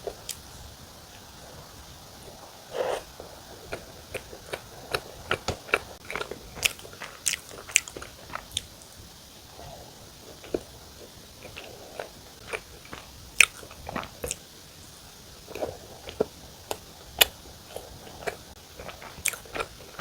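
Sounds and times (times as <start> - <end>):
biting and chewing bread: 1.2 - 14.6, 15.2 - 20.0.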